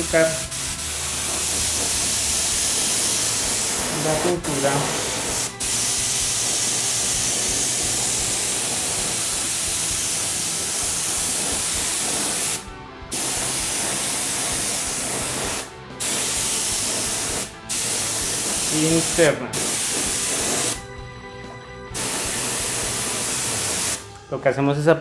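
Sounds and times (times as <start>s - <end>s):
airbrush spraying paint: 0.0s - 20.8s, 21.9s - 24.1s.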